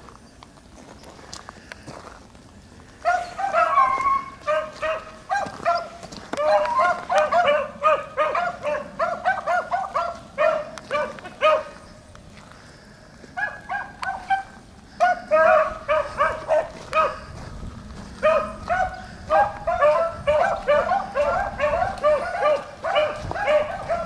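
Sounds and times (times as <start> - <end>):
beagles baying: 2.9 - 24.0.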